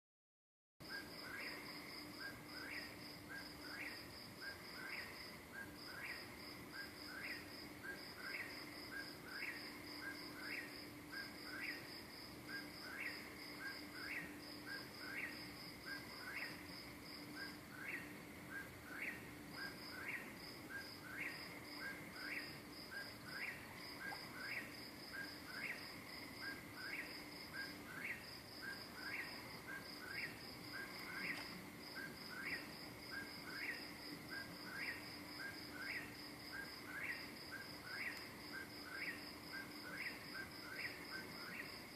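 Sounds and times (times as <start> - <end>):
faint steady hum: 0.8 - 41.9
insect pulsed trill: 0.8 - 41.9
low insect chirp: 0.8 - 41.9.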